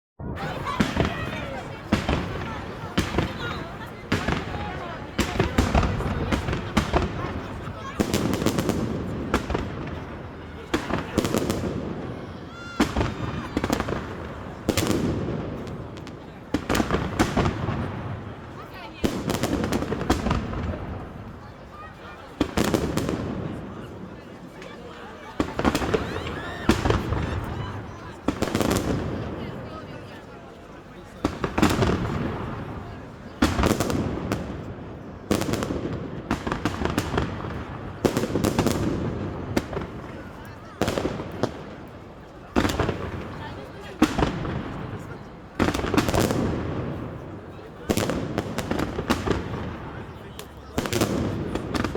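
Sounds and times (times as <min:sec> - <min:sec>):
firework bangs and crackles: 0:00.2 - 0:51.9.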